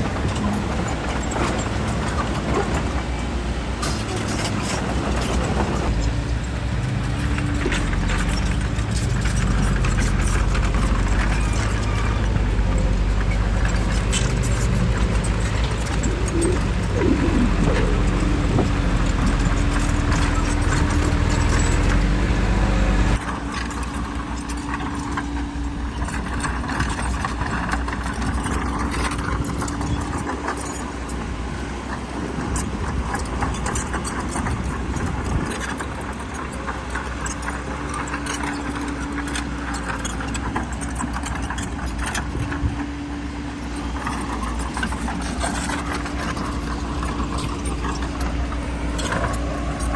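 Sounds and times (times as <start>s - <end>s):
bulldozer diesel engine: 0.0s - 49.9s
steel tracks clanking on stone: 0.0s - 49.9s.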